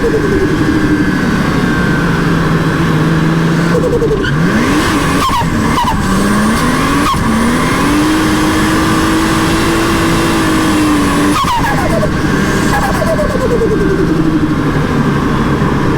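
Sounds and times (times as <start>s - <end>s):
car engine revving: 0.0s - 15.9s
turbo flutter: 0.0s - 15.9s.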